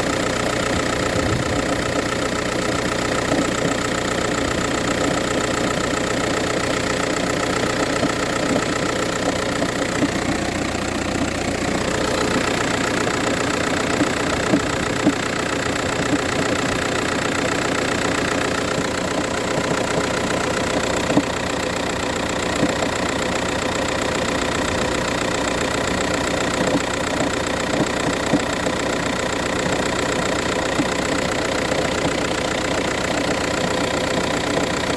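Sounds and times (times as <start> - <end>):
diesel engine idling: 0.0 - 34.9
engine knocking: 0.0 - 34.9.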